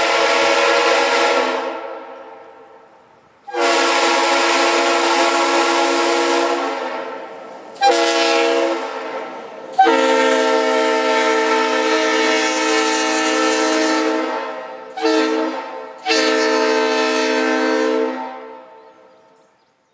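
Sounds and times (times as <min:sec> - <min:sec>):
train air horn blasts: 0:00.0 - 0:19.3.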